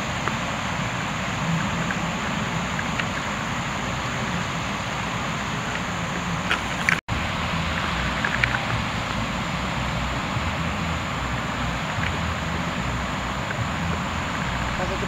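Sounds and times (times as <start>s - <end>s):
waves breaking: 0.0s - 15.0s.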